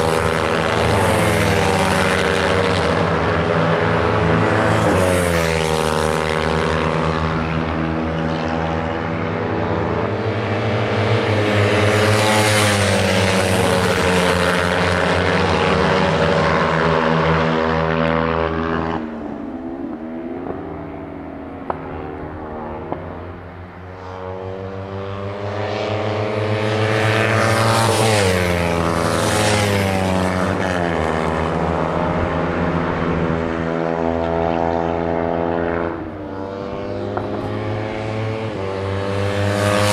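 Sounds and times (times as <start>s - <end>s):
race bikes passing at high revs: 0.0s - 39.9s.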